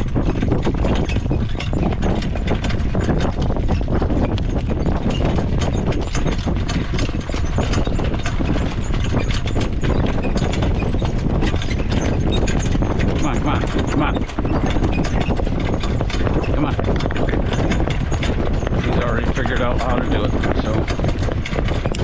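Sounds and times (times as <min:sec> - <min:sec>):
horse hoofbeats: 0:00.0 - 0:22.0
rattle of small clicks: 0:00.0 - 0:22.0
steady low rumble: 0:00.0 - 0:22.0.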